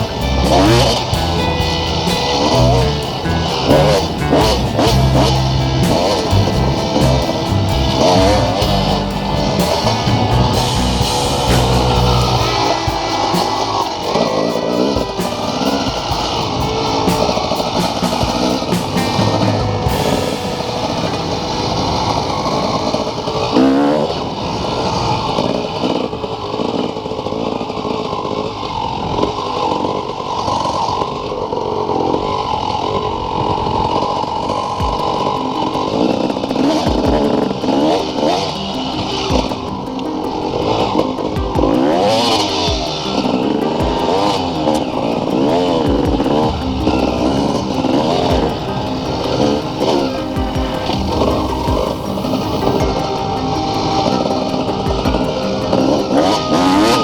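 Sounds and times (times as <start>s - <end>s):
motorcycle engine revving: 0.0s - 30.2s, 40.4s - 57.0s
wind noise: 0.0s - 30.6s, 31.5s - 57.0s
road noise: 0.0s - 57.0s.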